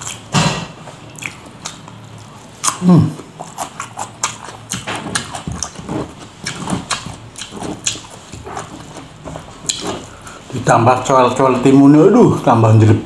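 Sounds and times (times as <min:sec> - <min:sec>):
person chewing with wet smacking: 0:00.0 - 0:10.5.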